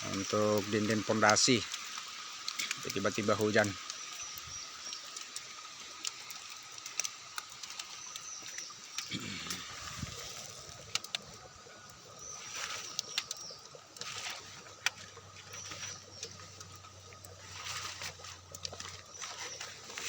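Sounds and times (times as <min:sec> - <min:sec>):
rain falling: 0:00.0 - 0:20.0
raindrops clicking: 0:00.0 - 0:20.0.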